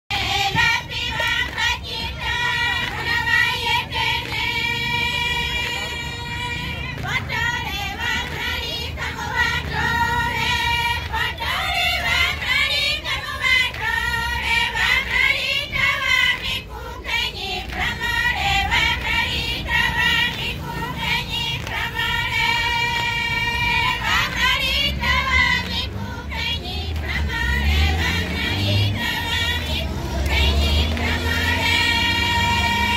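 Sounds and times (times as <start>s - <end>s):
women singing together: 0.1s - 32.9s.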